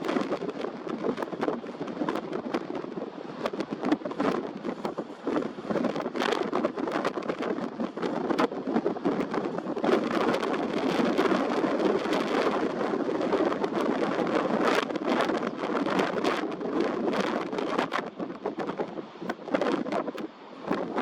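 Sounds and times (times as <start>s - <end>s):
heavy waves breaking on shore: 0.0s - 21.0s
wind buffeting microphone: 0.0s - 21.0s.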